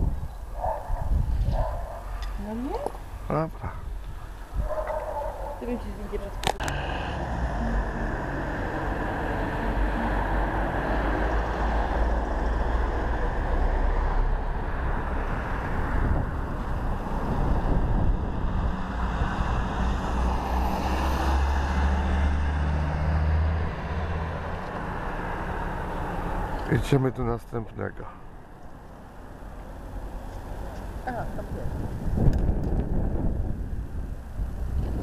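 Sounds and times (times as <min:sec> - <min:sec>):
street ambience low rumble: 0:00.0 - 0:35.0.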